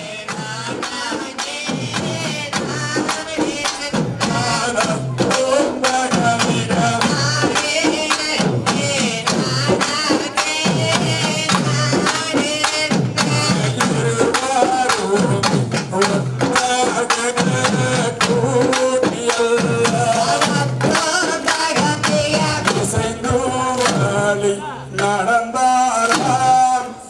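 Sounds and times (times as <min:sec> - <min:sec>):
steady drum beat: 0:00.0 - 0:25.2
person singing folk song: 0:00.0 - 0:27.0.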